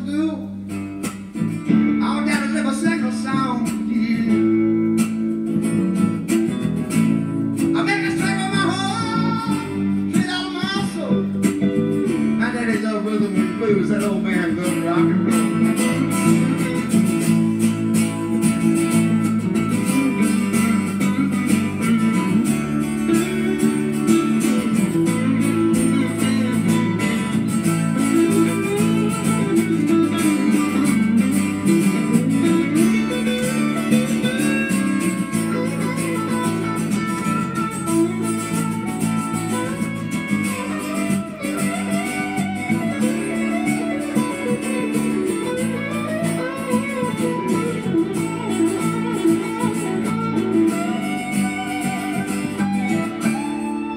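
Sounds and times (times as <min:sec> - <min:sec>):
bass line: 0:00.0 - 0:53.9
live band instrumental music: 0:00.0 - 0:53.9.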